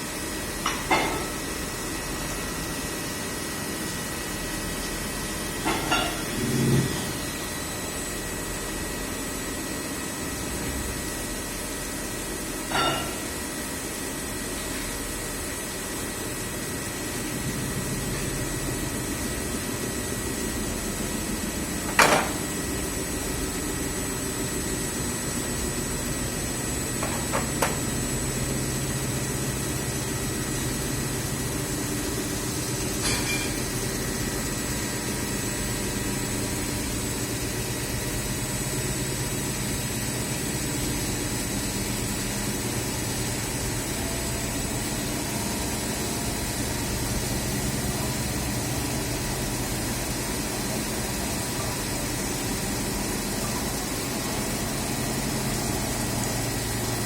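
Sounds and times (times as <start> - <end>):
mechanical hum with high whine: 0.0 - 57.0.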